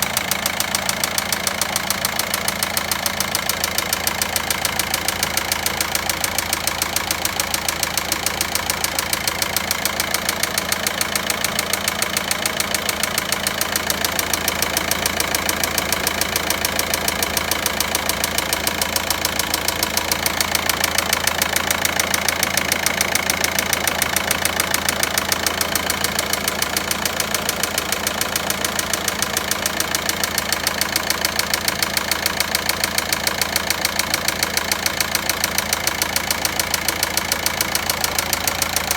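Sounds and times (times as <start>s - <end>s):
diesel engine idling: 0.0s - 38.9s
rapid ticking engine knock: 0.0s - 38.9s.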